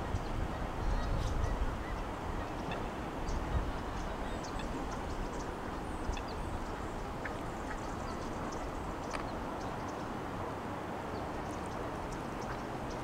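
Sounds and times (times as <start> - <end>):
moving water: 0.0 - 13.0.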